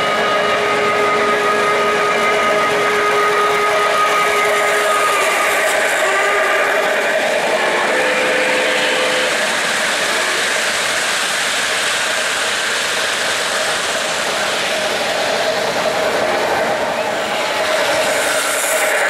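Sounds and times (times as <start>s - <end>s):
model train wheels rolling: 0.0s - 19.0s.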